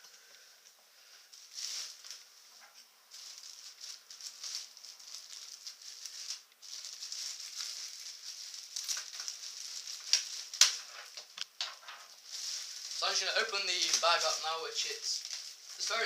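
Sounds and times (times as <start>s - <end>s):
plastic bag rustling: 1.1s - 16.0s.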